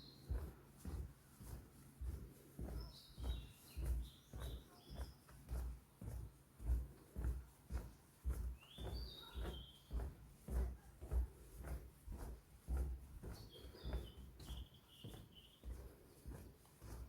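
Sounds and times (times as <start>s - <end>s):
footsteps on forest path: 0.0s - 17.0s.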